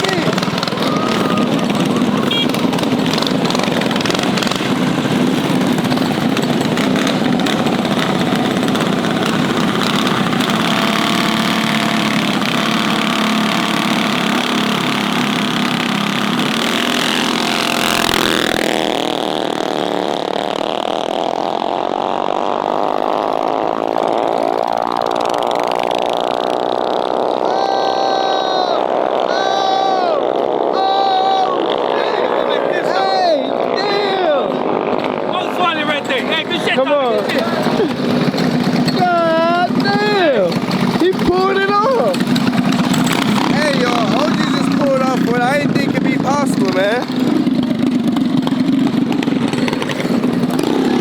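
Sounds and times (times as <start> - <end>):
mini bike engines revving high: 0.0 - 51.0.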